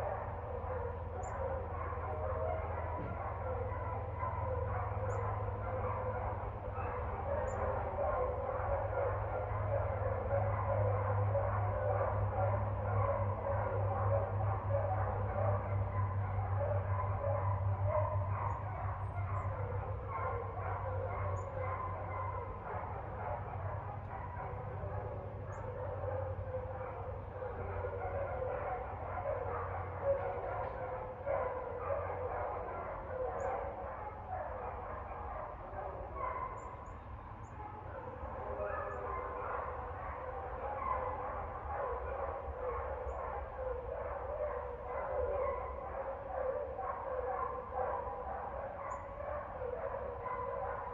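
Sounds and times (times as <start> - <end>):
dogs barking: 0.0 - 50.9.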